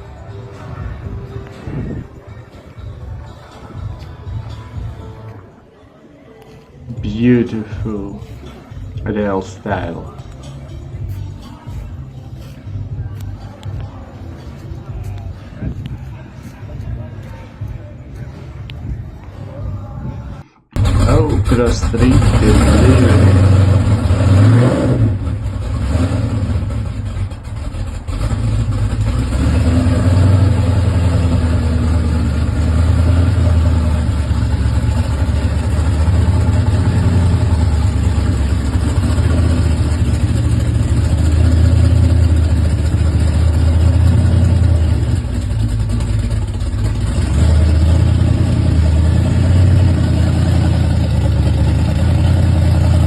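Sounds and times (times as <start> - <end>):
deep engine exhaust rumble: 7.7 - 53.0.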